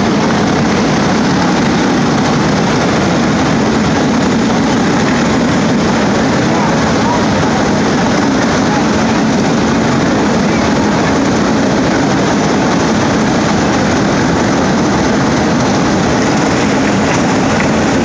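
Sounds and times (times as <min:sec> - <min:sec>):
racing engines droning: 0:00.0 - 0:18.0.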